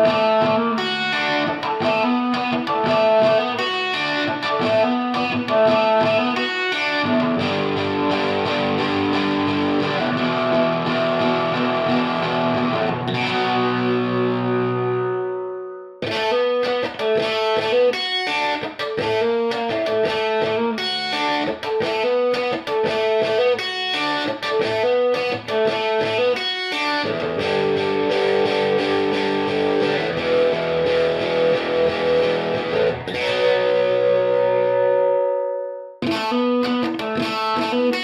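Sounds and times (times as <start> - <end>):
electric guitar riff and chords: 0.0 - 38.0.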